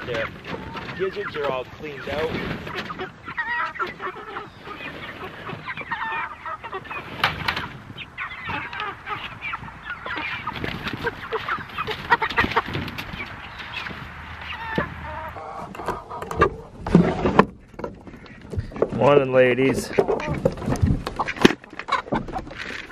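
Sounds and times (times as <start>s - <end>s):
chickens clucking and chirping: 0.0s - 22.9s.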